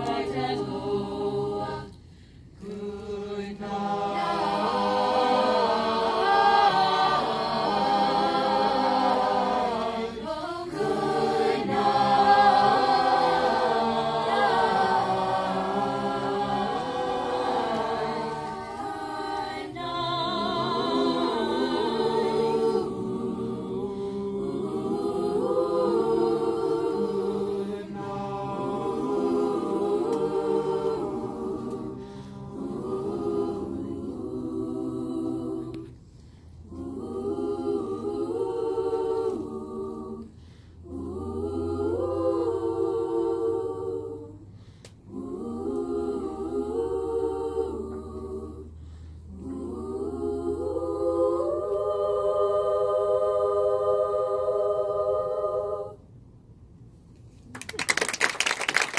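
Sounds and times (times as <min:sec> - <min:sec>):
choir singing: 0:00.0 - 0:56.2.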